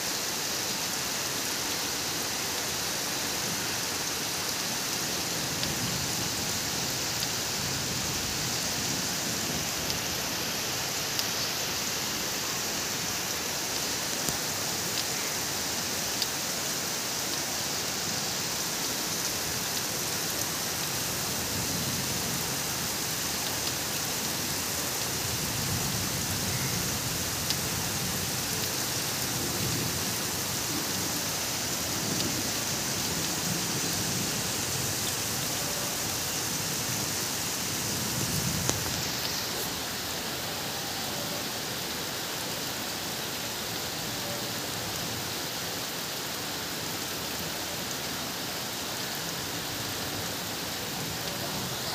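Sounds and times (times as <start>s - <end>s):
heavy rain on roofs and trees: 0.0s - 51.9s.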